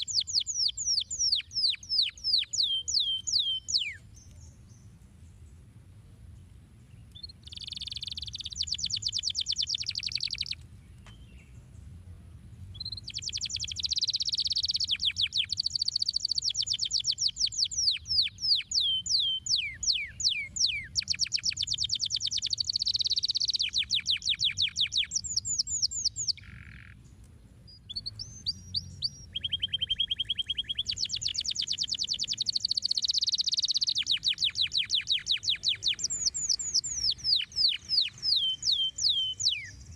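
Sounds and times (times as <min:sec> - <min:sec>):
canary singing trills: 0:00.0 - 0:05.0, 0:06.9 - 0:11.5, 0:12.7 - 0:39.9.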